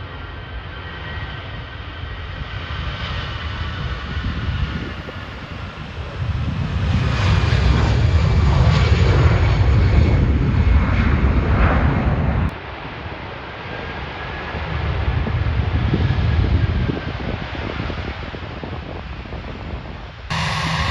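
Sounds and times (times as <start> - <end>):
aircraft engines passing: 0.0 - 20.9.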